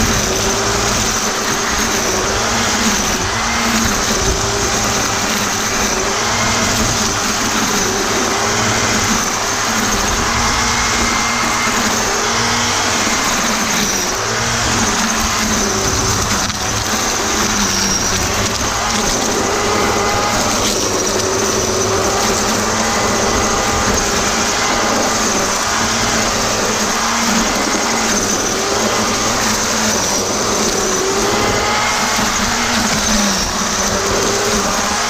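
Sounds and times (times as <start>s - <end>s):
electric string trimmer cutting grass: 0.0s - 35.0s.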